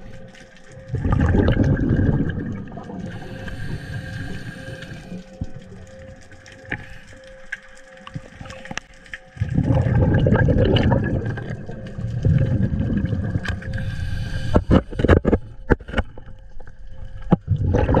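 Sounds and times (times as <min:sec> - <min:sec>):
water rushing and gurgling: 0:00.0 - 0:16.0.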